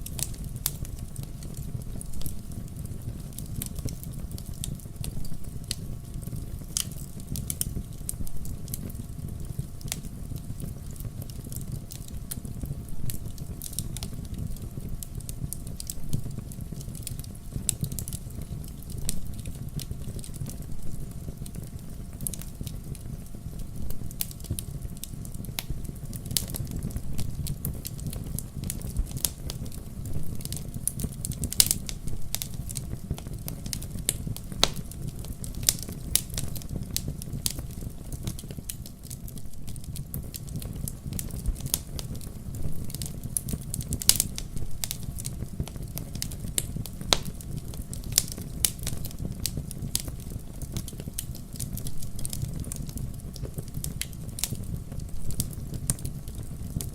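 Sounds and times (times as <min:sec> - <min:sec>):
low rush of fire: 0:00.0 - 0:56.9
wood fire crackling and popping: 0:00.0 - 0:56.9.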